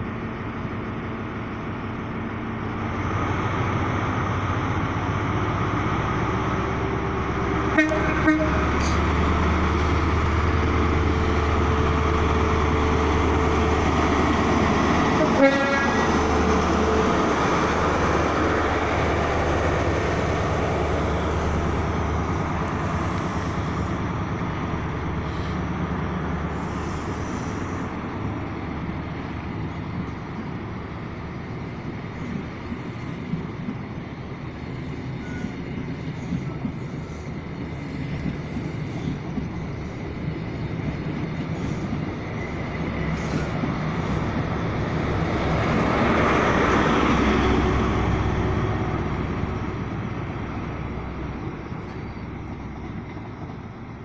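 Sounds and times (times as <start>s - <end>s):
diesel engine humming: 0.0s - 54.0s
train coaches rumbling past: 0.0s - 54.0s.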